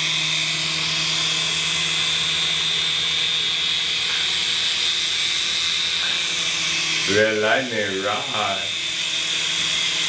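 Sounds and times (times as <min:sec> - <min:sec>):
toy helicopter motor whine: 0:00.0 - 0:10.0.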